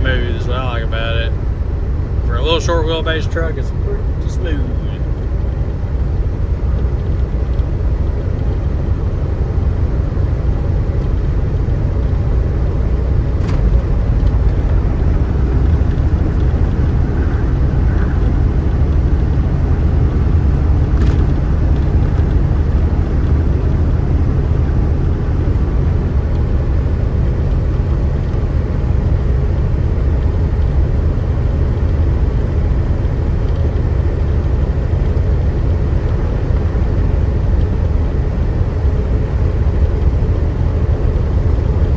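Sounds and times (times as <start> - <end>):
truck diesel engine drone: 0.0 - 41.9.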